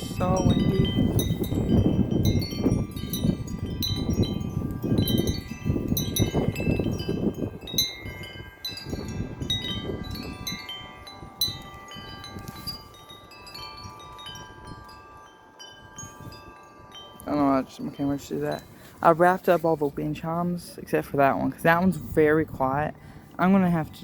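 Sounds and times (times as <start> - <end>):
metal wind chimes ringing: 0.0 - 24.0
wind buffeting microphone: 0.0 - 24.0.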